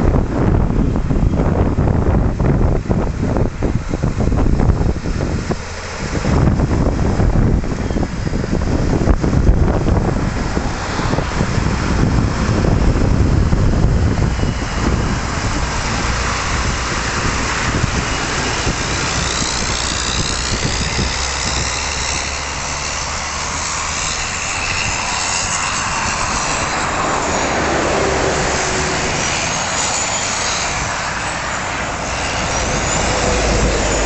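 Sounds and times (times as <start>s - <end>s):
diesel truck engine rumbling: 0.0s - 34.0s
passing lorries: 0.0s - 34.0s.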